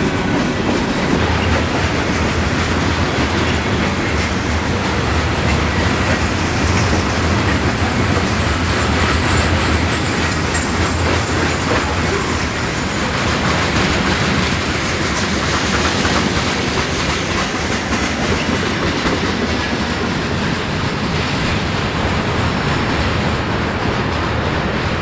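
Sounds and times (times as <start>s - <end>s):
freight train wheels on rails: 0.0s - 25.0s.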